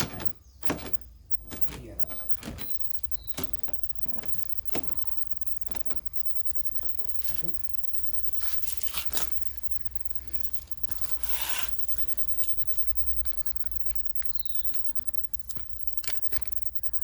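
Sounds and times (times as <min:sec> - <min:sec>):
plastic trim rubbing and clicking: 0:00.0 - 0:17.0.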